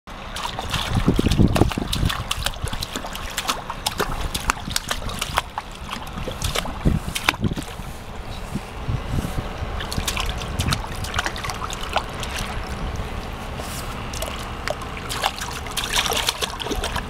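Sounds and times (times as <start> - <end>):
water splashing in a pool: 0.1 - 8.2, 9.7 - 17.0
low rumbles: 0.1 - 17.0.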